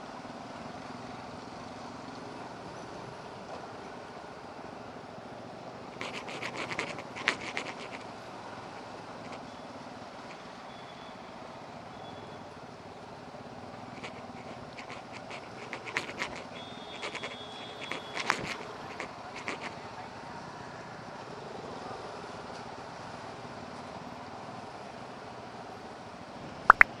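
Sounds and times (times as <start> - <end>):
road noise: 0.1 - 27.0.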